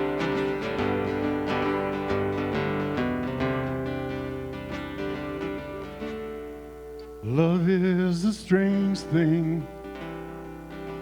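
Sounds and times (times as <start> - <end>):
acoustic guitar playing chords: 0.0 - 11.0.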